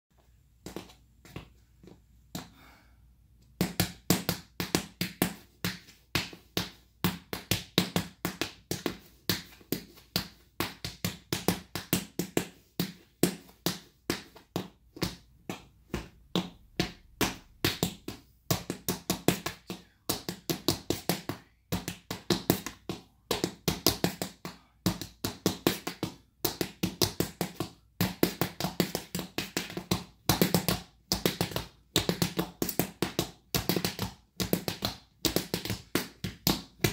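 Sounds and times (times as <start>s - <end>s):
tap shoes on wooden board: 3.6s - 36.9s.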